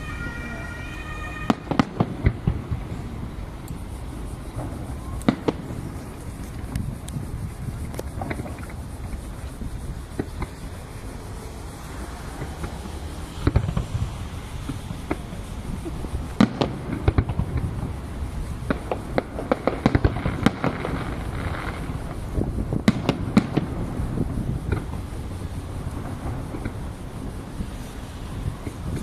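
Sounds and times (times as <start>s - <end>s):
firework shells bursting: 0.0s - 25.2s
fireworks crackling: 0.0s - 29.0s.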